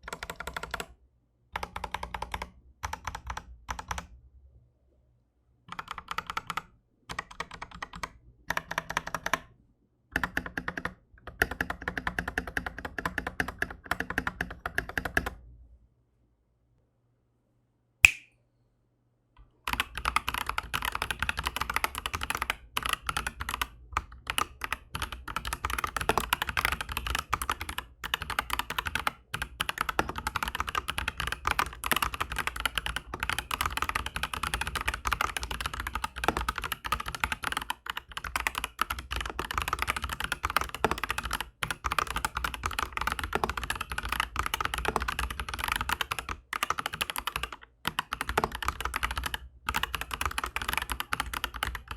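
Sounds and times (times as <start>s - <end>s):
mechanical keyboard typing: 0.0s - 0.9s, 1.6s - 4.1s, 5.7s - 9.5s, 10.1s - 15.4s, 19.7s - 51.9s.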